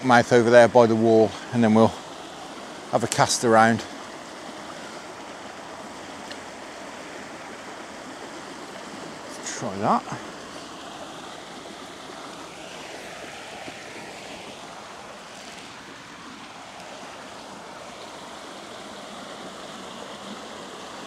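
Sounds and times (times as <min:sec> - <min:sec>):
water rushing through overflow: 0:00.0 - 0:21.0.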